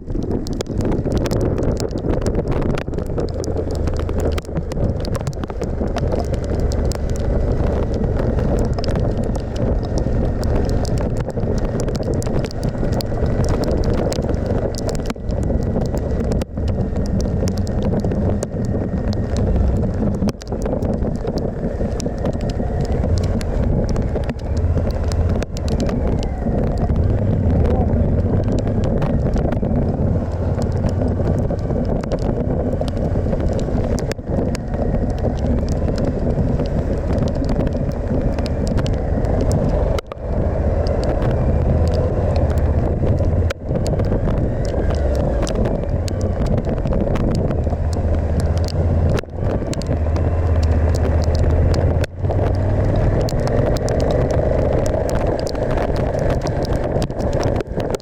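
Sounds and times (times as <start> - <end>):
wind and road noise: 0.0 - 58.0
motorcycle engine running: 1.8 - 58.0.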